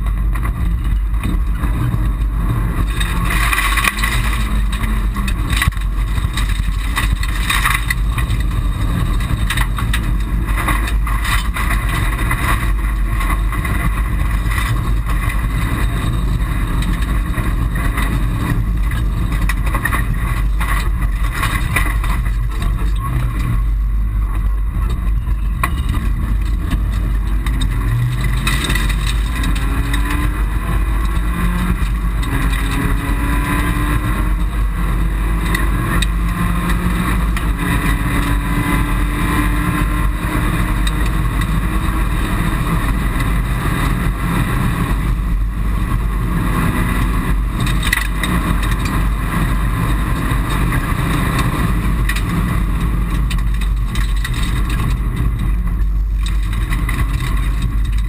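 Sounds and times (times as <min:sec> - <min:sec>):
car engine revving through gears: 0:00.0 - 0:58.0
gravel rattling under car: 0:00.0 - 0:58.0.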